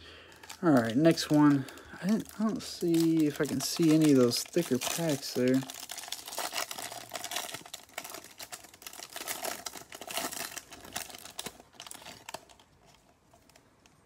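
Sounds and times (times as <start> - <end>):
plastic wrapper crinkling: 0.1 - 14.0.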